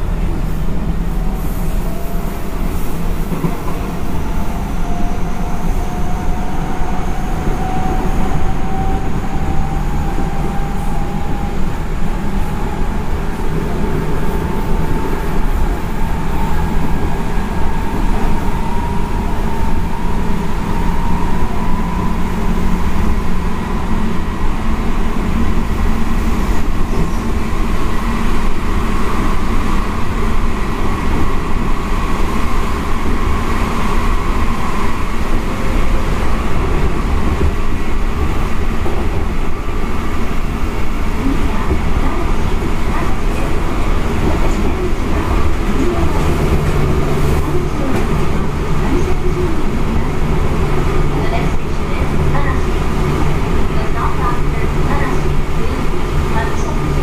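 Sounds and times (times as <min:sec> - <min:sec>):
rumble of train wheels on rail: 0:00.0 - 0:57.0.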